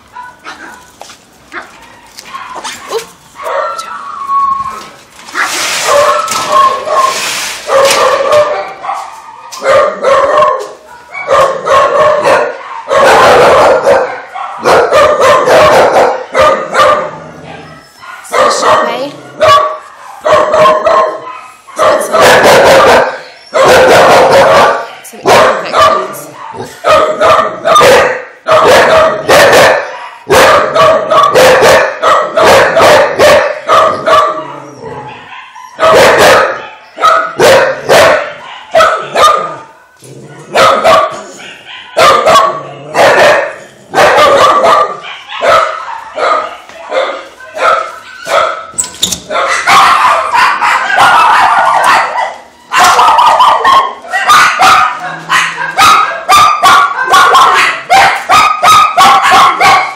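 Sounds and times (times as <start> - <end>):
dogs barking loudly: 0.0 - 4.1, 5.2 - 59.9.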